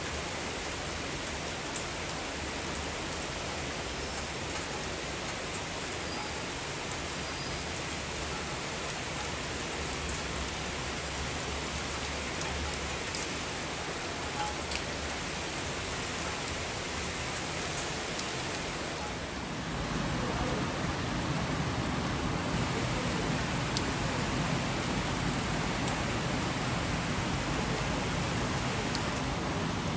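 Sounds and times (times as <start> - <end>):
heavy rain falling: 0.0 - 29.9.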